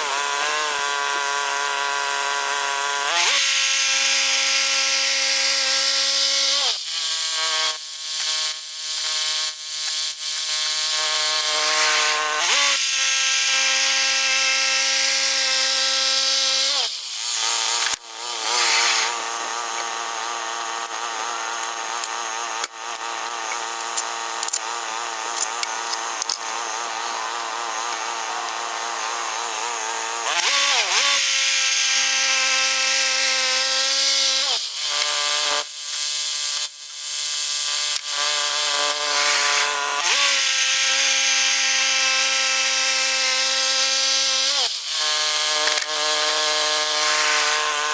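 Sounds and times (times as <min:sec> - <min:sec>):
bandsaw mill whining: 0:00.0 - 0:47.9
saw blade cutting through log: 0:00.0 - 0:47.9.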